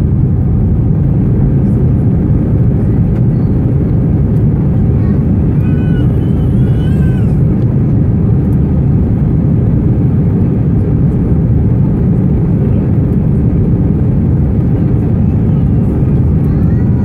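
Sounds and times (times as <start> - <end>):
airplane engine roar inside cabin: 0.0 - 17.0.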